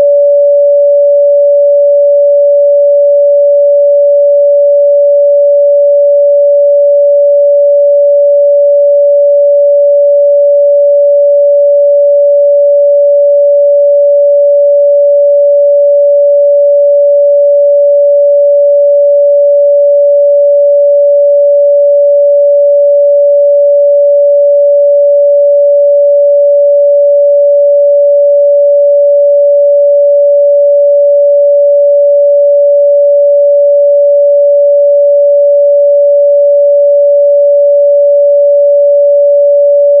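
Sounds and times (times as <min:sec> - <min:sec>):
sine-wave test tone: 0:00.0 - 0:40.0.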